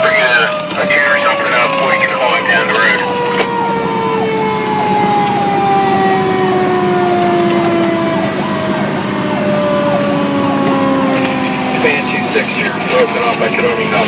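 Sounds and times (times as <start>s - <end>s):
siren cycling up and down: 0.0s - 14.0s
siren winding down: 0.0s - 14.0s
truck drone: 0.0s - 14.0s.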